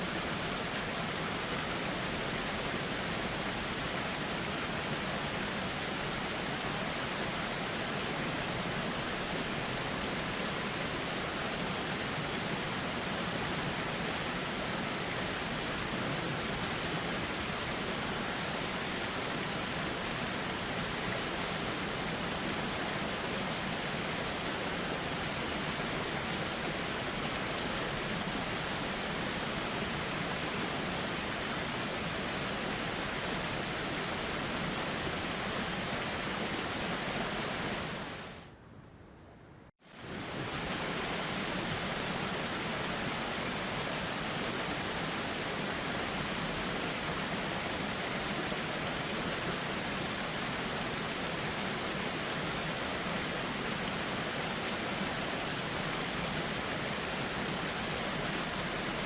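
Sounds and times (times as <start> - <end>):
flowing river water: 0.0 - 38.5, 39.8 - 59.0.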